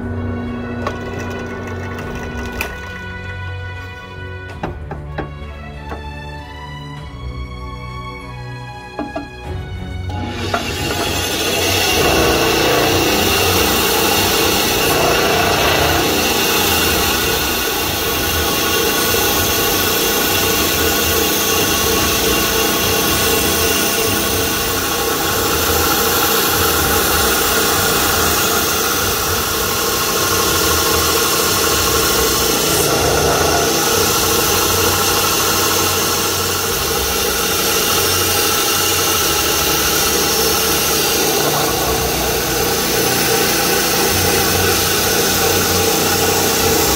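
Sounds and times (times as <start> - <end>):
bandsaw cutting wood: 9.0 - 46.9.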